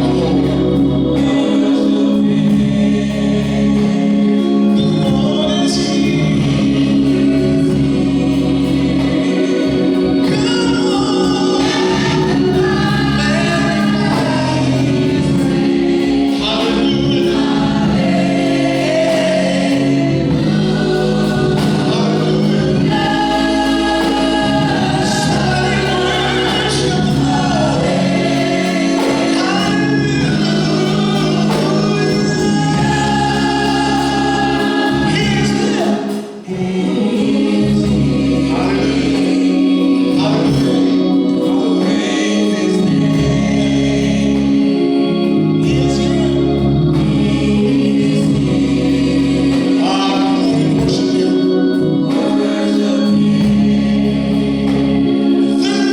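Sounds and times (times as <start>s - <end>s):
gospel choir singing: 0.0s - 55.9s
instrumental accompaniment: 0.0s - 55.9s.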